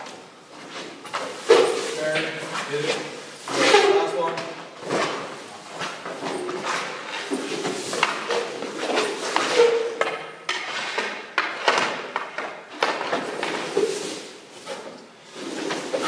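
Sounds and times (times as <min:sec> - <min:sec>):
pads and stick thudding: 0:00.0 - 0:16.0
skate blades scraping ice: 0:00.6 - 0:04.2, 0:05.8 - 0:16.0.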